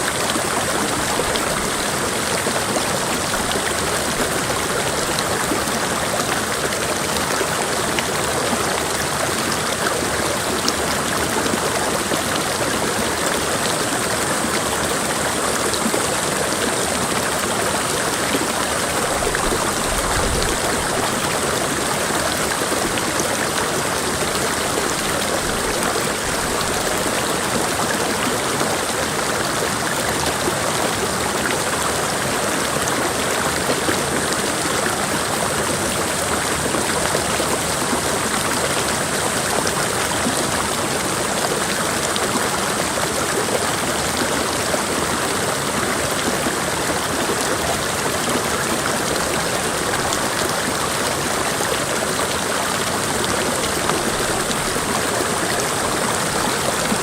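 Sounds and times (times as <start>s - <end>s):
creek flowing over rocks: 0.0s - 57.0s.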